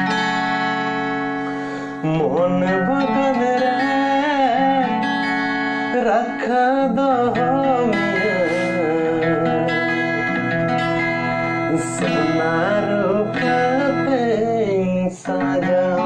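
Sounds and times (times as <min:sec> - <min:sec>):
song with vocal and guitar: 0:00.0 - 0:16.0.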